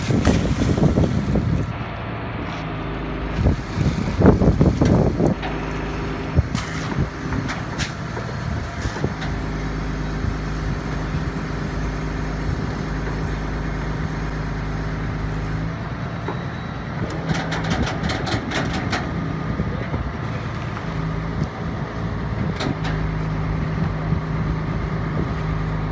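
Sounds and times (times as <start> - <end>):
deep hydraulic hum: 0.0 - 25.9
diesel engine running: 0.0 - 25.9.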